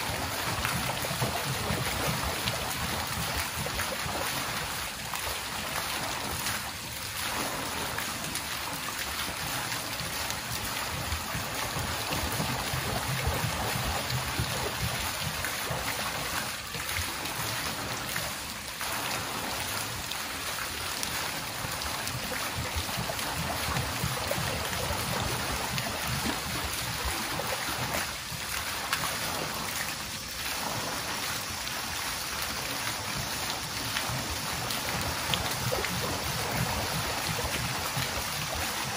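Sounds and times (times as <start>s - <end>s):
water splashing steadily: 0.0s - 38.9s.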